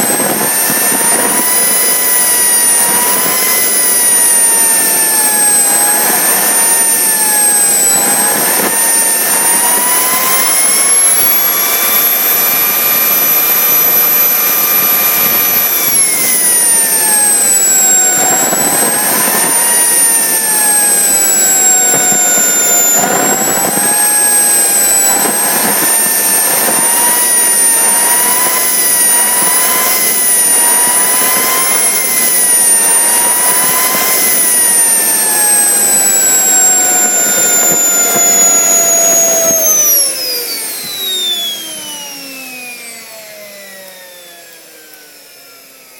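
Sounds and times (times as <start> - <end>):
high turbine whine: 0.0 - 45.9
turbojet exhaust rush: 0.0 - 45.9.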